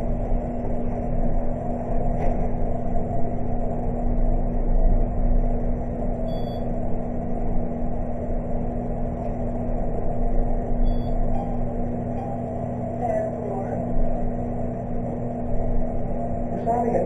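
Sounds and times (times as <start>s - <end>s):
elevator hum and rumble: 0.0s - 17.0s.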